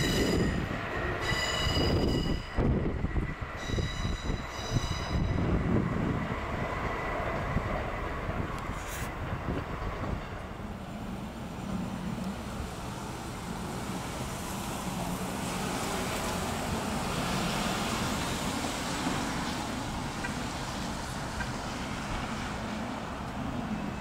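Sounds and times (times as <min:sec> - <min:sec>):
distant trains rumbling: 0:00.0 - 0:24.0
road traffic: 0:00.0 - 0:24.0.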